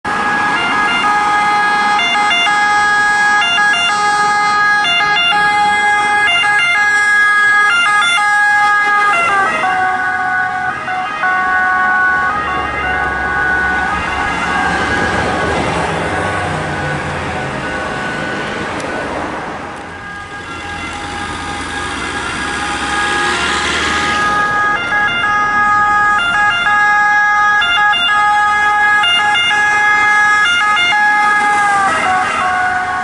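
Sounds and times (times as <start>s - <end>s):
two-tone ambulance siren: 0.0s - 33.0s
vehicle engine and tyre noise: 0.0s - 33.0s.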